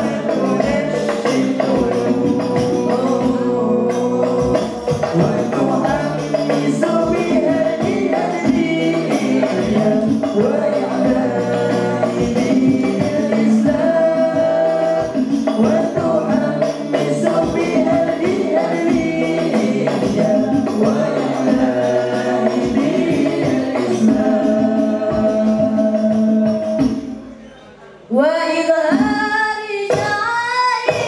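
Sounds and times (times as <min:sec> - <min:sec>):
young man singing devotional song: 0:00.0 - 0:27.3
frame drums beating: 0:00.0 - 0:27.5.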